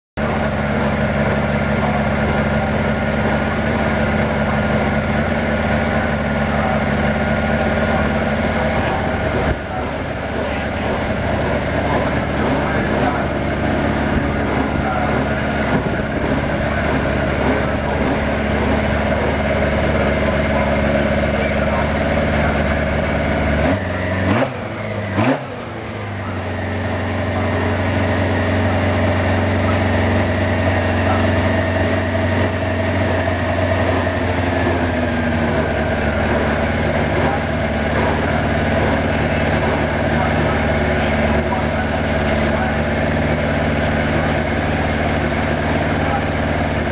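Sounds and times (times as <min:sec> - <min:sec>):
race car engine idling and revving: 0:00.2 - 0:46.9.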